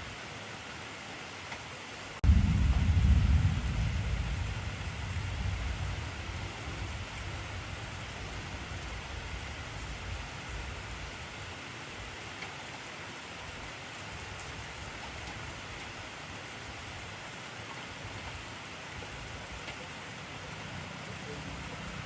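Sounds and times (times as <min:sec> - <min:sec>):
heavy rainfall: 0:00.0 - 0:22.0.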